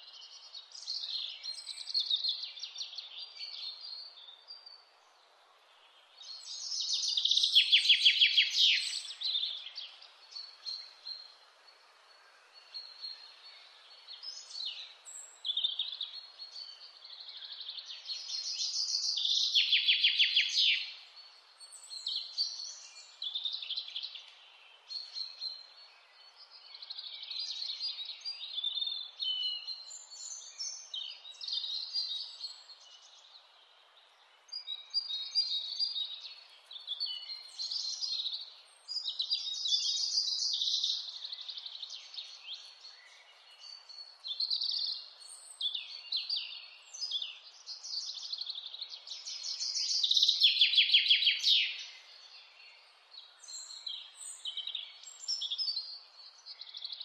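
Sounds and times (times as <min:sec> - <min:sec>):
faint steady hiss: 0:00.0 - 0:50.8
bird song of quick repeated notes: 0:00.0 - 0:57.0
wild birds singing: 0:00.0 - 0:57.0.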